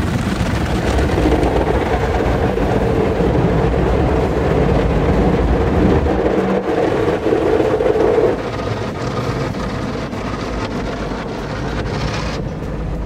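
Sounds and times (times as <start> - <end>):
water spraying against car: 0.0 - 13.0
car wash brushes scrubbing: 0.9 - 13.0.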